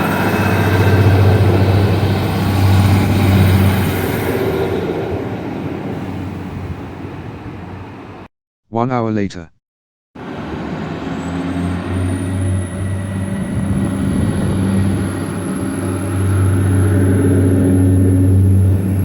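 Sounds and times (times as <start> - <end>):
train engine drone: 0.0 - 8.3, 10.2 - 19.0.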